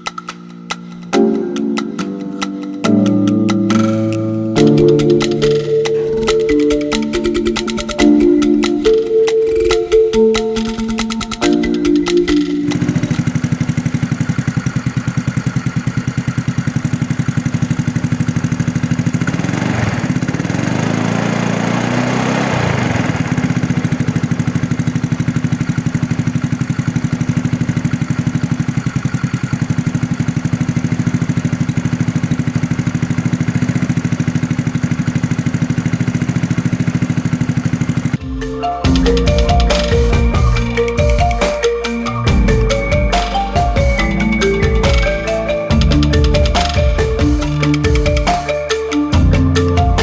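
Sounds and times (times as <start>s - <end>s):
scooter engine idling and revving: 3.6s - 50.0s.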